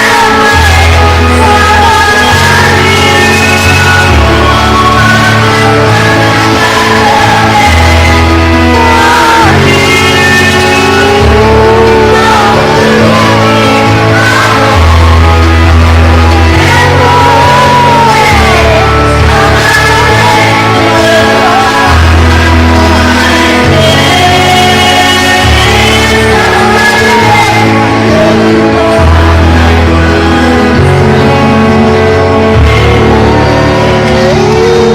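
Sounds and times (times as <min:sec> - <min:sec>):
loud backing music: 0:00.0 - 0:34.9
person singing: 0:00.0 - 0:34.9.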